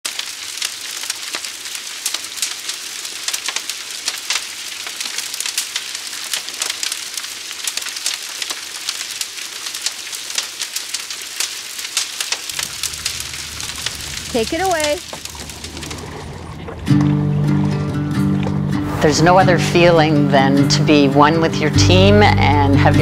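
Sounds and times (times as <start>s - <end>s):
fire crackling and popping: 0.0s - 19.8s.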